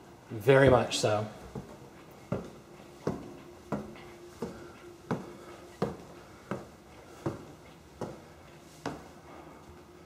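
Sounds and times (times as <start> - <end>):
faint steady hum: 0.0 - 10.0
footsteps on wooden stairs: 0.6 - 9.2.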